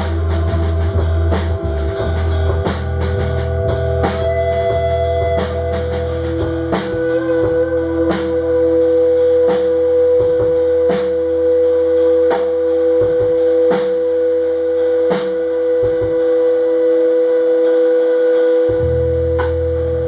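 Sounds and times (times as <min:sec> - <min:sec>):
slow drum hits: 0:00.0 - 0:16.3
low bass drone: 0:00.0 - 0:17.6, 0:18.7 - 0:20.0.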